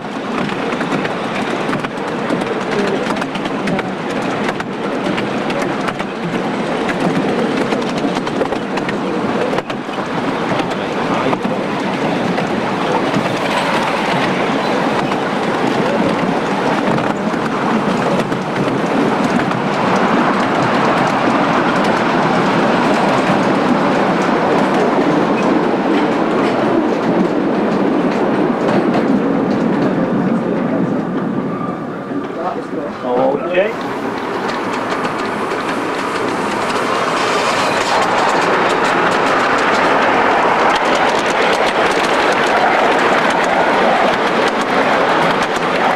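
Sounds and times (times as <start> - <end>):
rumble of wheels on rail: 0.0 - 45.9.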